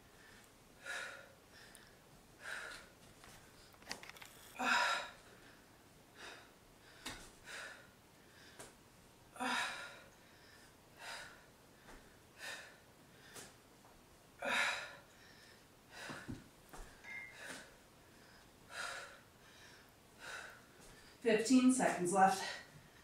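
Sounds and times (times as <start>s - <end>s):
woman breathing heavily: 0.0s - 21.7s, 22.3s - 23.0s.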